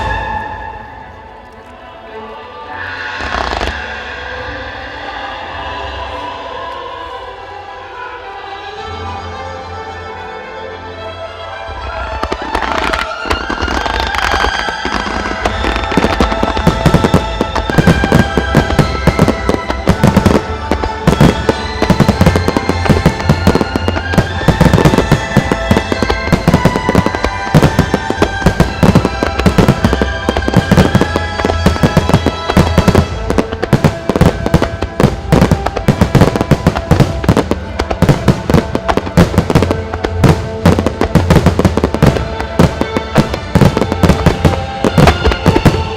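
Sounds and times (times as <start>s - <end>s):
fireworks bursting: 0.0s - 1.3s, 3.2s - 6.2s, 12.1s - 45.9s
orchestral music: 0.0s - 45.9s.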